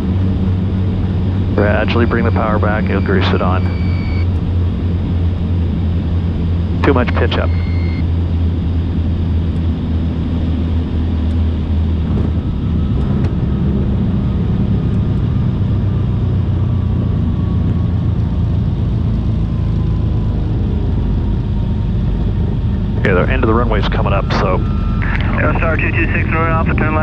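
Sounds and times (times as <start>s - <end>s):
faint whine falling in pitch: 0.0s - 8.4s, 10.4s - 27.0s
aircraft engines droning: 0.0s - 27.0s.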